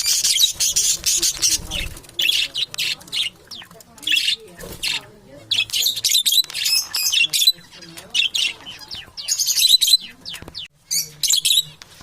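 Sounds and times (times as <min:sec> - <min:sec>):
parrots squawking: 0:00.0 - 0:10.3.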